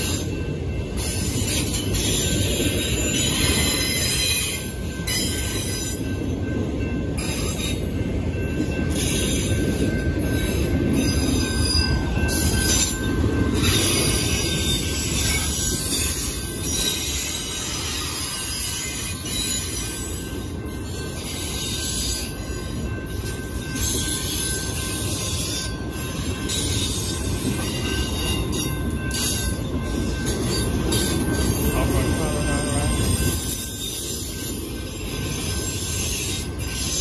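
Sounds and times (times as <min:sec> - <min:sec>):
steel wheels rumbling on rail: 0:00.0 - 0:37.0.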